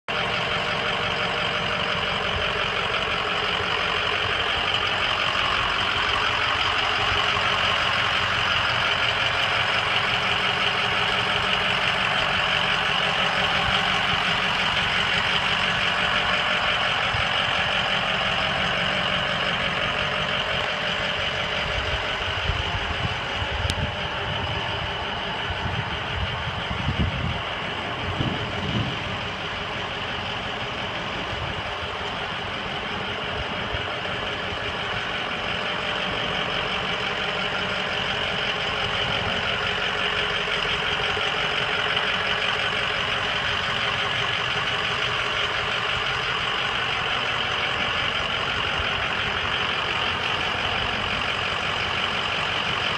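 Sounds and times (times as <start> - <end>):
truck engine idling: 0.0 - 52.9
low bumps: 0.2 - 52.9.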